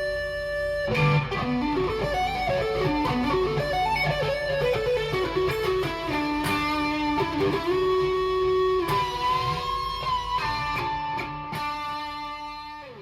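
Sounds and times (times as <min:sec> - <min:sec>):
electric guitar lead with bends: 0:00.0 - 0:13.0.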